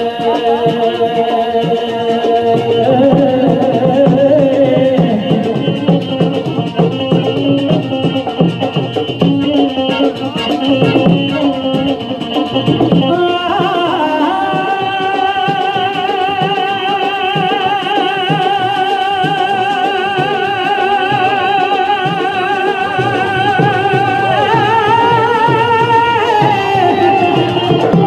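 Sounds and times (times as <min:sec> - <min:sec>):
hand drum strokes: 0:00.0 - 0:28.0
man singing with vibrato: 0:00.0 - 0:28.0.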